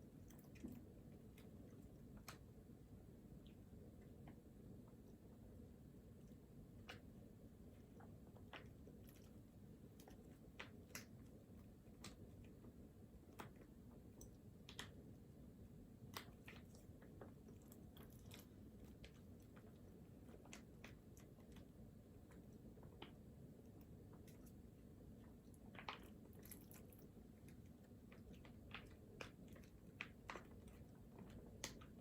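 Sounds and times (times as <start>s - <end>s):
faint small clicks and taps: 0.0s - 32.0s
low room hum: 0.0s - 32.0s.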